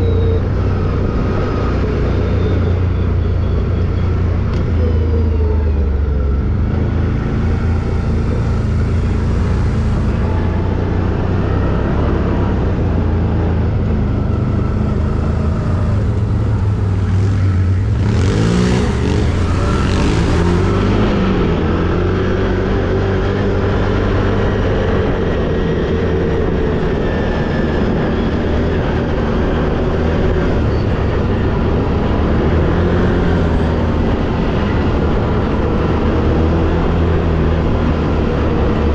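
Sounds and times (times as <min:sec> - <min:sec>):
quad bike engine: 0:00.0 - 0:38.9.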